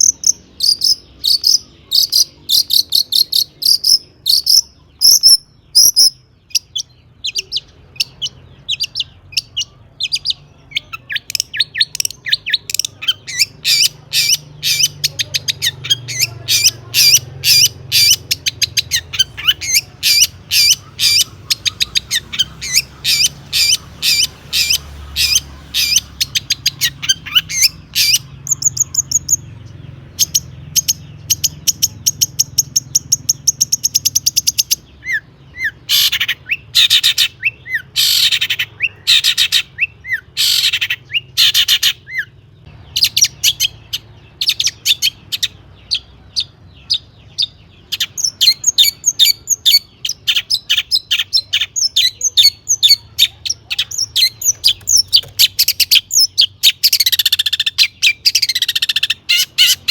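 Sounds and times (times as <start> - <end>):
bird singing trills: 0.0 - 59.9.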